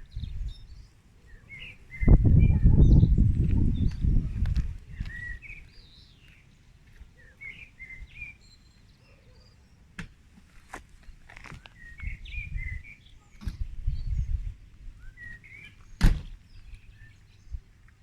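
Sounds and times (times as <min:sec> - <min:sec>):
songbirds chirping and singing: 0:00.0 - 0:18.0.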